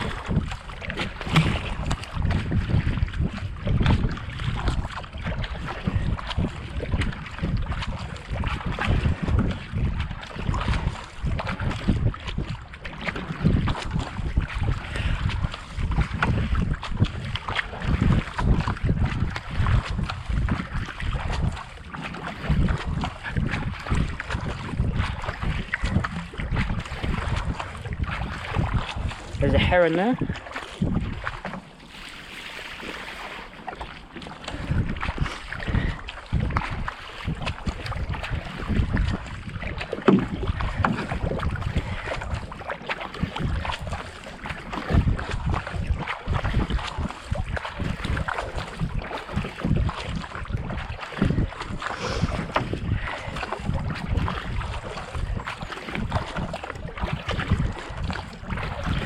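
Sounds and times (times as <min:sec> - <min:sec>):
wind buffeting microphone: 0:00.0 - 0:32.2, 0:32.8 - 0:59.0
kayak paddle strokes in water: 0:00.0 - 0:59.0.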